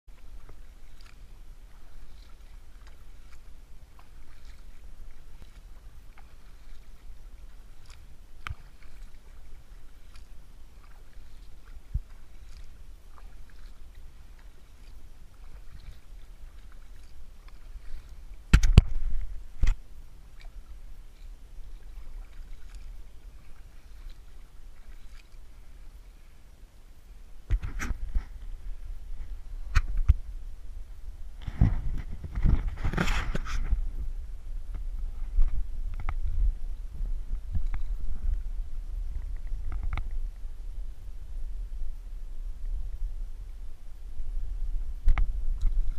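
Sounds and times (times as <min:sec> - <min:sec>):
paddle strokes and drips: 0:00.1 - 0:45.9.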